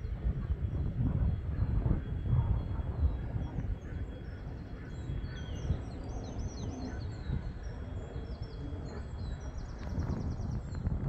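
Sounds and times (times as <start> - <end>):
small birds singing: 0.0 - 11.0.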